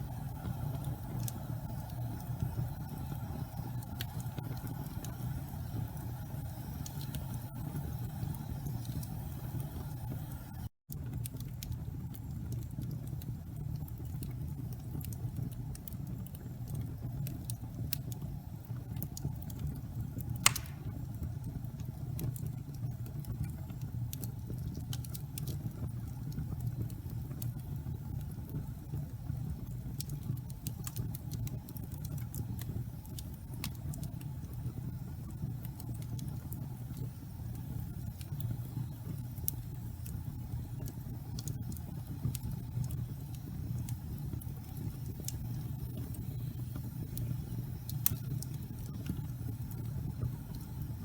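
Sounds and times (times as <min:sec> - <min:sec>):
low rumble of flames: 0:00.0 - 0:51.0
wood fire crackling: 0:00.0 - 0:51.0.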